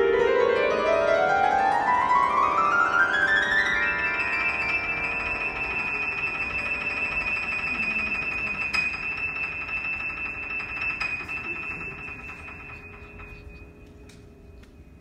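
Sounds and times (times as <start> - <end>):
piano notes ringing: 0.0 - 15.0.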